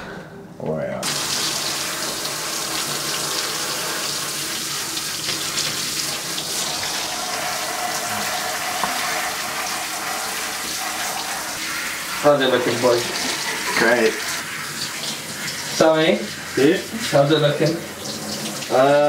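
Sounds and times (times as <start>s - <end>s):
shower water spraying into bathtub: 1.0s - 19.0s.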